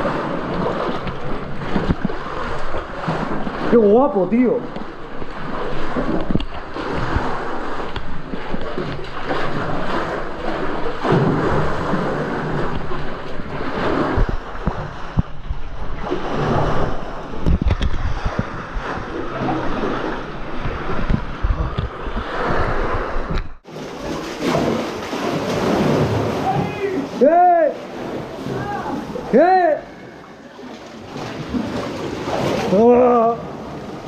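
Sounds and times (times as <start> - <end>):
seawater sloshing against rock: 0.0 - 34.0.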